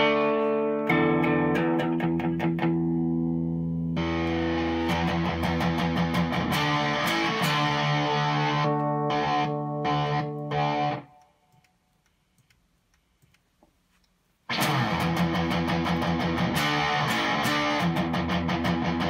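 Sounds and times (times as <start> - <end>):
electric guitar chords: 0.0 - 11.2, 14.5 - 19.0
strummed electric guitar: 0.0 - 11.2, 14.5 - 19.0.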